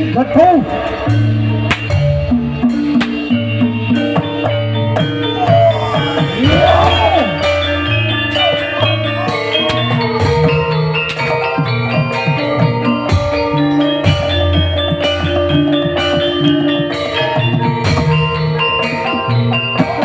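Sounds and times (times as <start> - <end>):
drum pattern: 0.0 - 18.6
metallophones ringing: 0.0 - 20.0.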